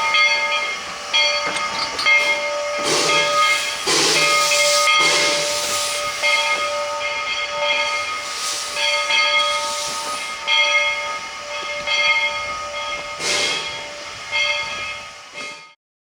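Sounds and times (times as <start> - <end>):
steam locomotive hissing: 0.0 - 15.8.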